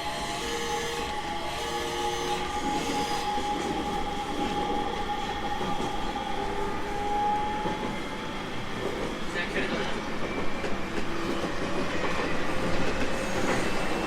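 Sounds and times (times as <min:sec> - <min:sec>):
train rolling noise: 0:00.0 - 0:14.0.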